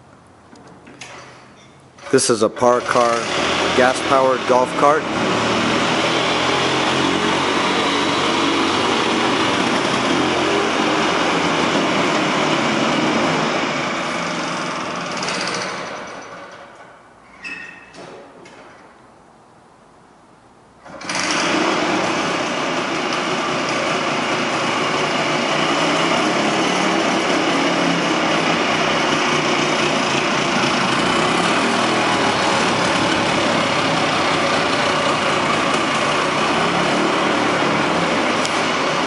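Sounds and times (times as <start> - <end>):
golf cart engine running: 2.5 - 16.7, 20.8 - 39.0.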